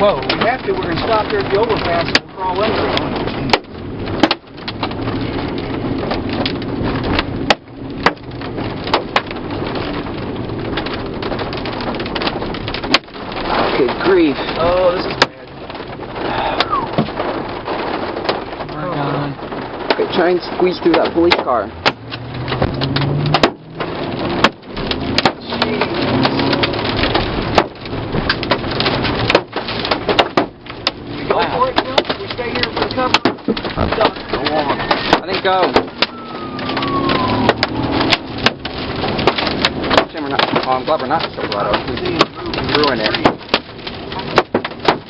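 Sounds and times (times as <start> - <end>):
hail and rain drumming on car: 0.0 - 45.0
hailstones cracking on car body: 0.0 - 45.0.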